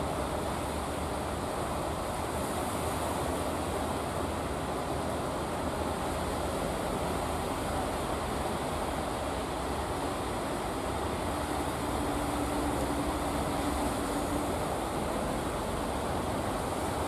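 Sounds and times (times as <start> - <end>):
faint boat engine hum: 0.0 - 17.0
wind: 0.0 - 17.0.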